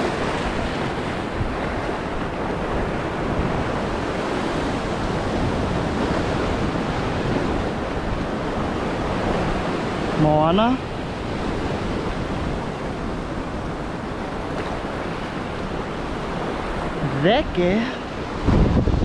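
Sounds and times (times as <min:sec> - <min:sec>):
ocean surf on rocks: 0:00.0 - 0:19.0.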